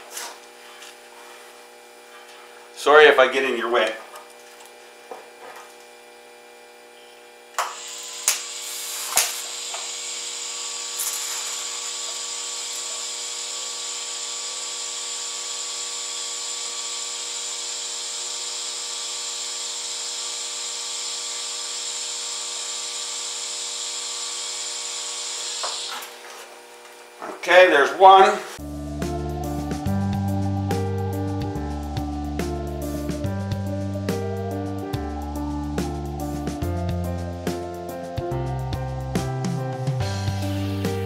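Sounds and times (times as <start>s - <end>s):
welding arc buzzing and hissing: 0.0s - 27.2s, 28.4s - 41.0s.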